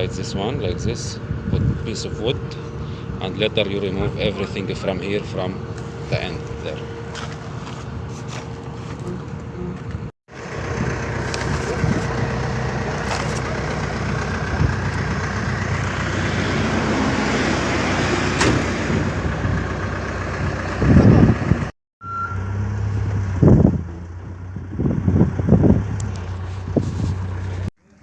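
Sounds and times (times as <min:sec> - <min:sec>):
heavy vehicle engine running: 0:00.0 - 0:21.7, 0:22.3 - 0:28.0.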